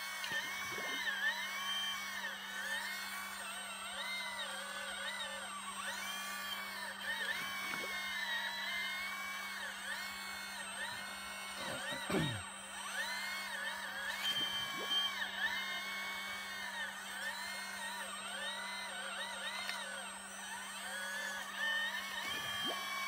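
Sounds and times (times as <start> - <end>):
hydraulic pump whine: 0.0 - 23.0
steady low hum: 0.0 - 23.0.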